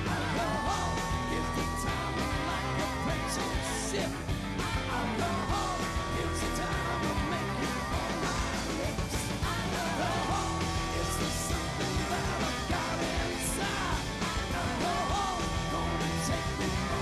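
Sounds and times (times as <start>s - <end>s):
vocalists singing held notes: 0.0s - 4.1s, 4.7s - 17.0s
live rock band playing: 0.0s - 17.0s.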